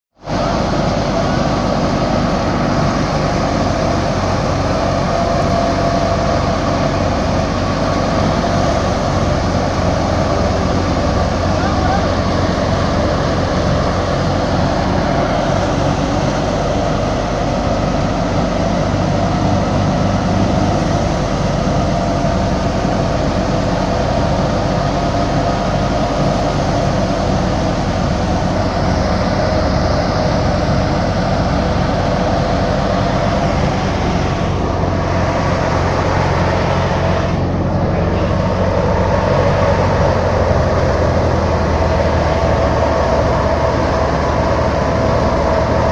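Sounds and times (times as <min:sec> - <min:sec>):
tractor engine low note: 0:00.1 - 0:45.9
grain thresher threshing: 0:00.2 - 0:45.9.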